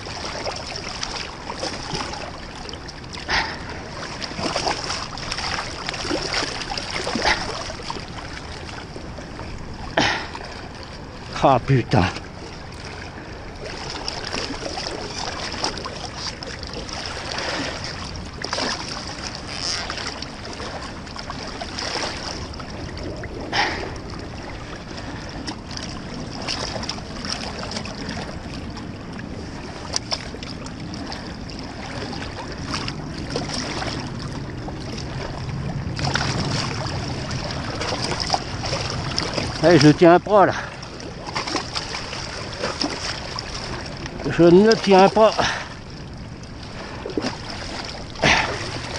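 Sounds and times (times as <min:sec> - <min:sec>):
moving river water: 0:00.0 - 0:48.9
water splashing: 0:00.0 - 0:48.9.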